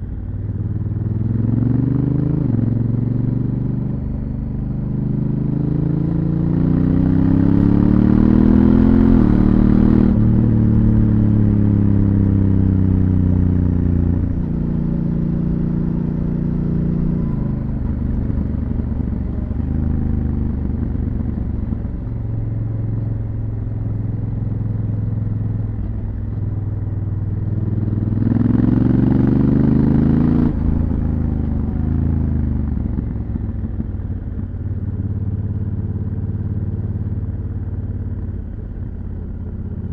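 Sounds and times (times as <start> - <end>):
motorcycle engine revving: 0.0 - 38.5.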